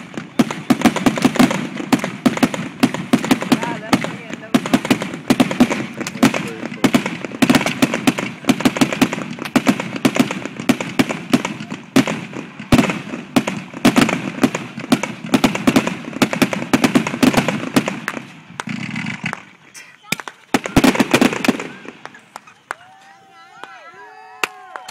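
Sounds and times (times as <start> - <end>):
firework hiss: 0.0 - 22.5
firework crackling pops: 0.0 - 24.9.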